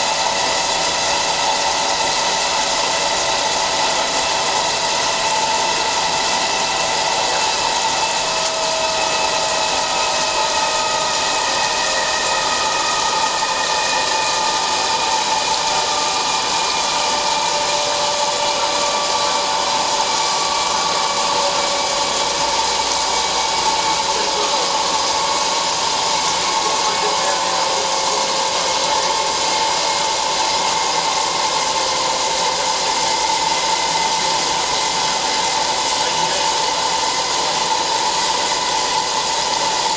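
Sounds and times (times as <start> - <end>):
lathe machining with whining tones: 0.0 - 39.9.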